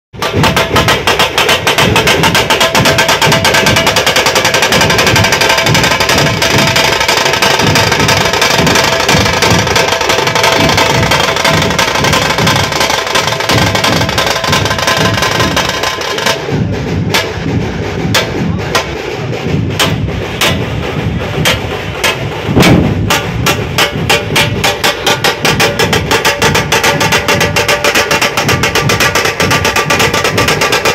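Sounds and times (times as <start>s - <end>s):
troupe drumming fast rhythm: 0.2s - 30.9s.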